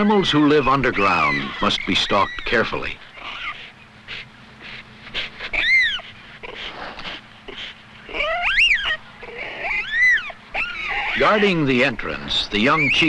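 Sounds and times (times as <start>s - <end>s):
cheetah cubs chirping: 0.0s - 13.0s.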